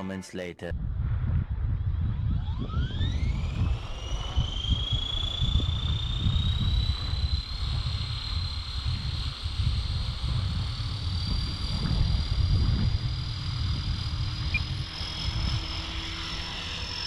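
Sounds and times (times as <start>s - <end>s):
wind rumble on microphone: 0.7s - 17.0s
rc helicopter motor whine: 1.5s - 17.0s.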